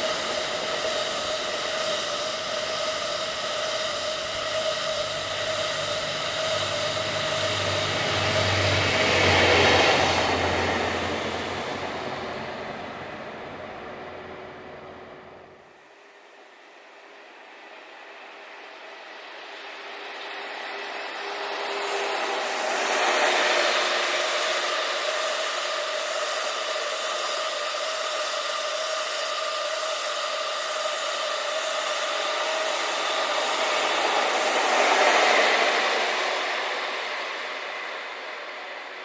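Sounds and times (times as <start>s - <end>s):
train wheels rushing on rails: 0.0s - 15.5s, 18.4s - 39.0s.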